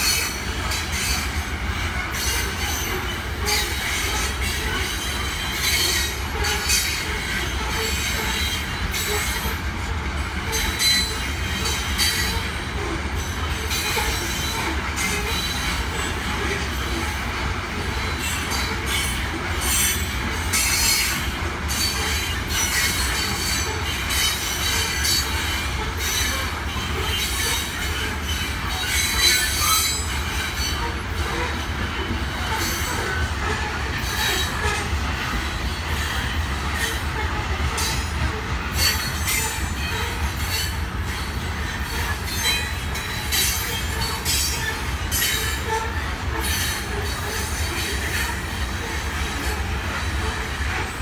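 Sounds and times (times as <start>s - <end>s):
high-pitched wheel squeals: 0.0s - 9.6s, 10.4s - 17.2s, 18.0s - 50.9s
freight train rumbling past: 0.0s - 51.0s
wheels clattering on rails: 0.0s - 51.0s.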